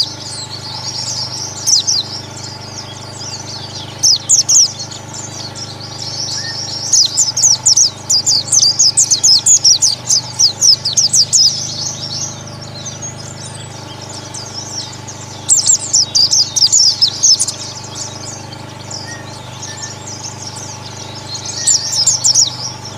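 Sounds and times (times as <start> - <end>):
birds twittering: 0.0 - 22.9
steady low hum: 0.0 - 22.9.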